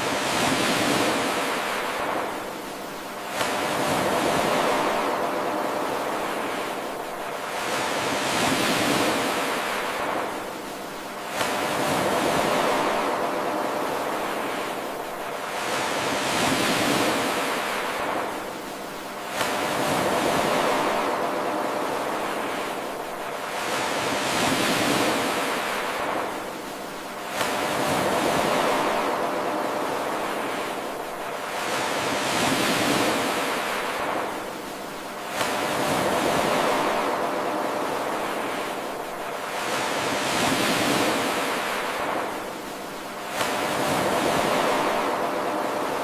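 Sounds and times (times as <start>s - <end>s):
ocean surf washing in: 0.0s - 46.0s.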